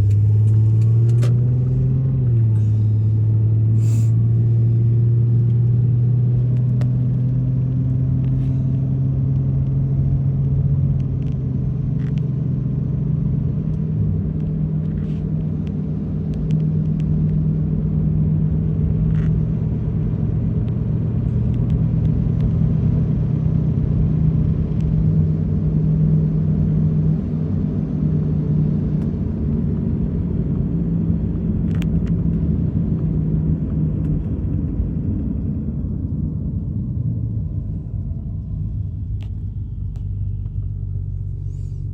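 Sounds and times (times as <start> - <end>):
car engine drone: 0.0 - 41.9
road rumble: 0.0 - 41.9.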